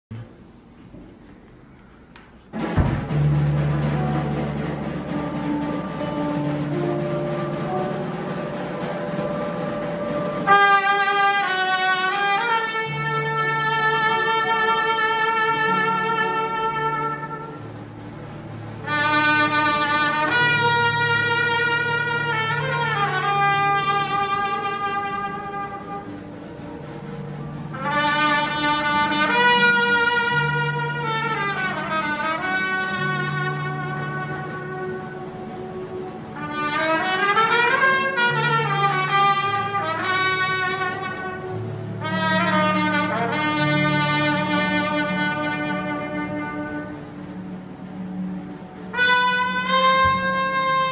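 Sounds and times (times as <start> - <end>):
wind band low chords: 0.1 - 50.9
solo wind instrument long notes: 3.1 - 50.9.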